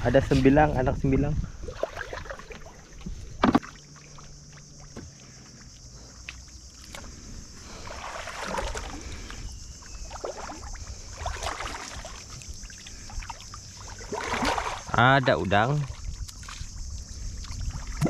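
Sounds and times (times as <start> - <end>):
wading through splashing water: 1.6 - 18.0.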